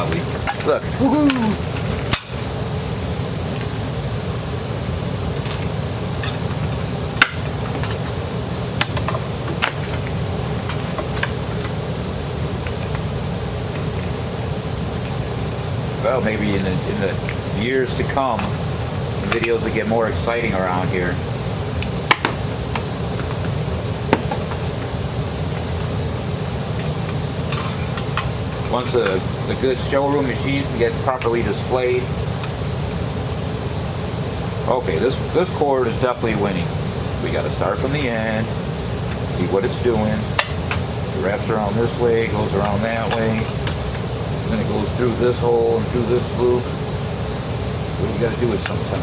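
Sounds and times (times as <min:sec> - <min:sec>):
low background hum: 0:00.0 - 0:49.0.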